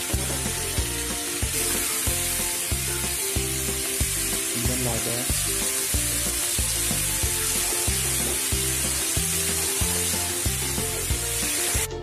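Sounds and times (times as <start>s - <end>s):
background music with beat: 0.0s - 12.0s
food sizzling in a wok: 0.0s - 12.0s.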